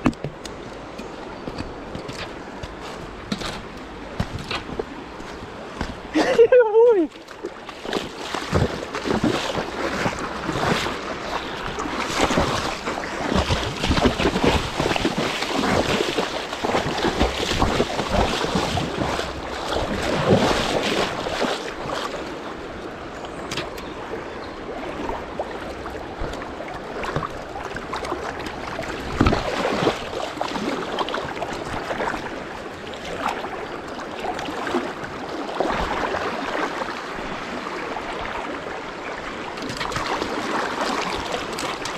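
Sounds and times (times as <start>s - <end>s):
river rushing: 0.4s - 41.9s
splashes and knocks: 1.5s - 22.4s, 25.0s - 37.0s, 39.6s - 41.9s.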